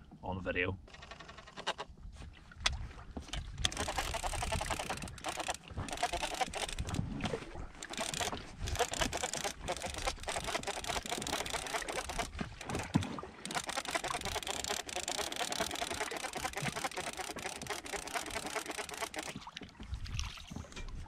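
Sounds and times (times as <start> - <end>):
small waves lapping against boat: 0.0 - 21.0.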